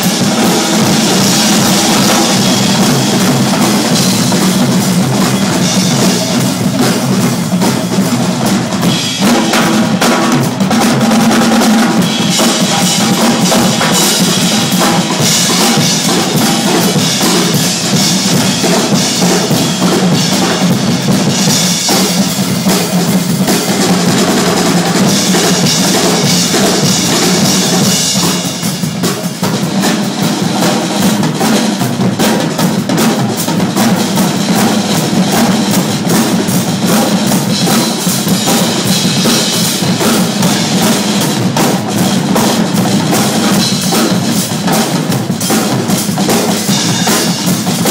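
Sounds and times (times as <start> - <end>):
percussion ensemble drumming: 0.0 - 47.9.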